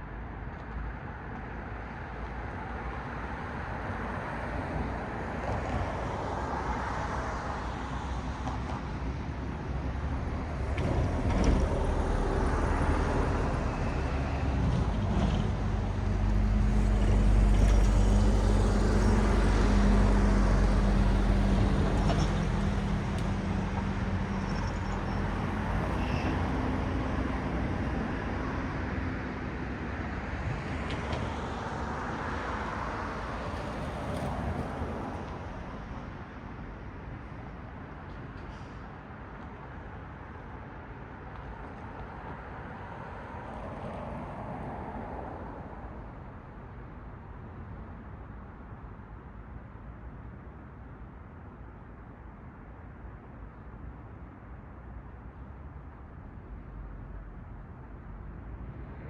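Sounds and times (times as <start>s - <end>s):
cars passing with tyre hiss: 1.0s - 52.5s.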